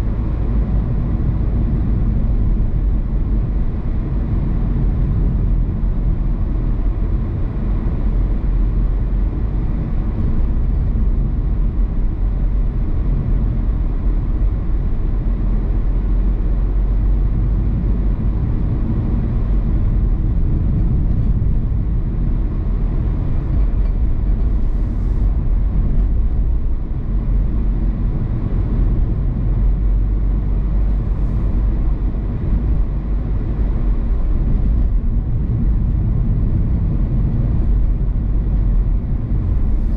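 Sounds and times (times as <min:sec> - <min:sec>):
tyres rumbling on road: 0:00.0 - 0:39.9.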